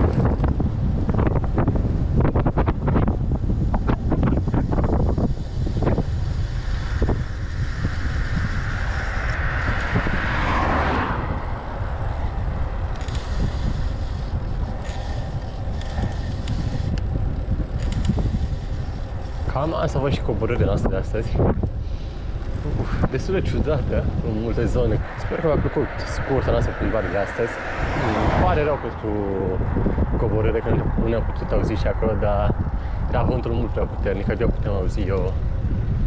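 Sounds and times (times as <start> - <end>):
passing vehicle: 0.0 - 36.0
wind buffeting camera: 0.0 - 36.0.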